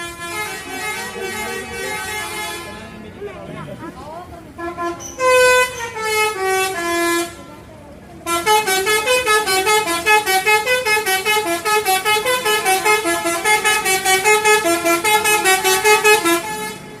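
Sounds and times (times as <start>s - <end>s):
multi-tone bus horn melody: 0.0s - 3.2s, 4.2s - 17.0s.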